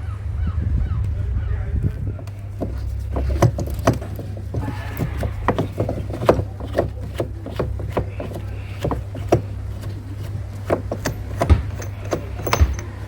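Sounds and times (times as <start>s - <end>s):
steady low hum: 0.0s - 13.0s
scrap parts knocking and clicking: 2.2s - 13.0s.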